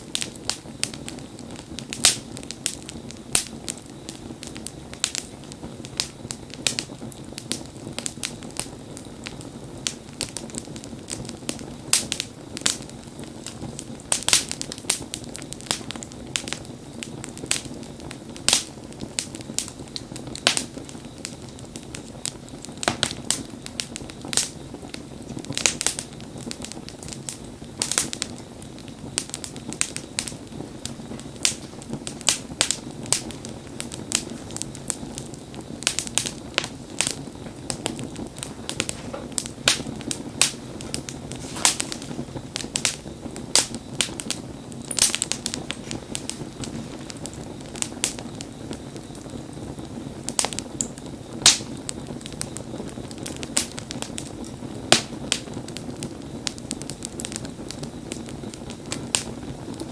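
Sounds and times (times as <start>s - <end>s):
hiss of flame: 0.0s - 59.9s
wood fire crackling and popping: 0.0s - 59.9s.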